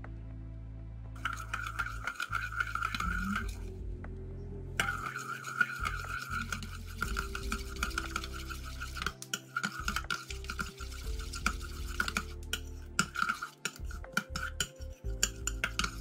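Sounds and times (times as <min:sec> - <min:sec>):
spoon scraping and clinking container: 0:01.2 - 0:03.7, 0:04.8 - 0:16.0.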